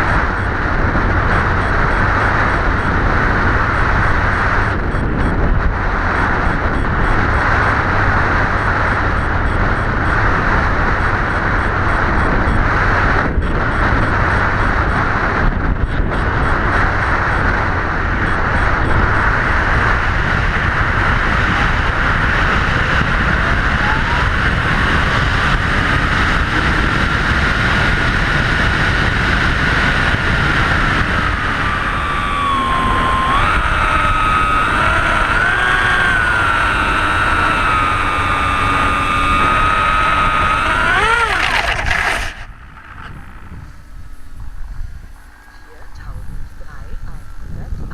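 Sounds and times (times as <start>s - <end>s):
rushing wind noise: 0.0s - 47.9s
thin motor whine: 0.0s - 47.9s.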